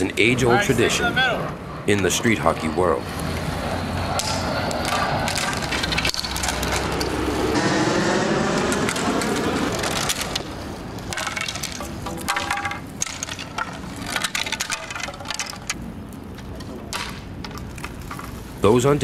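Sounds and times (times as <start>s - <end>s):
steady background noise: 0.0s - 19.0s
hockey sticks clattering on asphalt: 1.9s - 7.5s, 8.8s - 19.0s.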